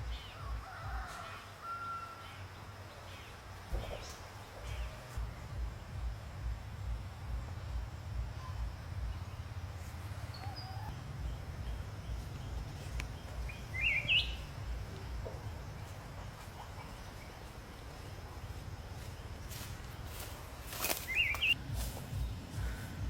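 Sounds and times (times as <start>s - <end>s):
bird chirps: 0.0s - 23.0s
low uneven rumble: 2.4s - 23.0s.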